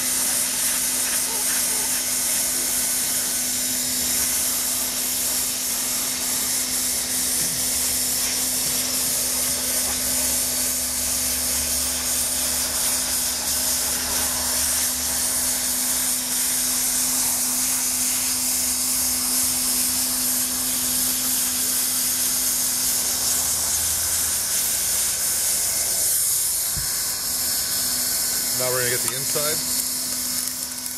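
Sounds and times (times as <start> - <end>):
hot-air blower hissing: 0.0 - 30.9.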